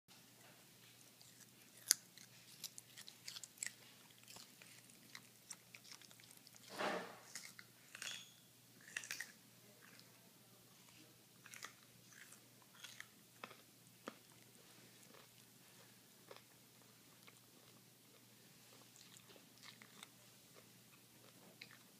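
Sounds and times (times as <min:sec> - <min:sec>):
dog crunching carrot: 0:00.8 - 0:10.1, 0:11.4 - 0:21.9.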